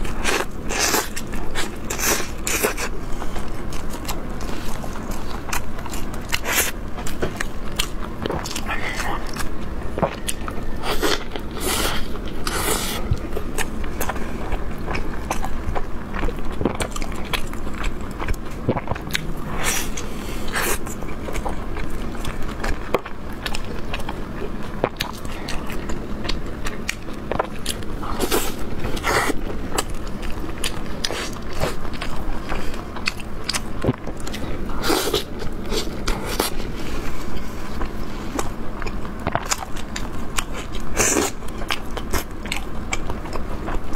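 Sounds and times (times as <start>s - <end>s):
chewing: 0.0s - 43.9s.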